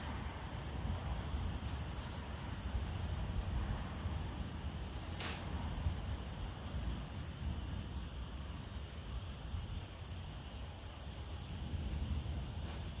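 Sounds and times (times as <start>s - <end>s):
high-pitched insect trill: 0.1s - 13.0s
pulsing insect trill: 0.1s - 13.0s.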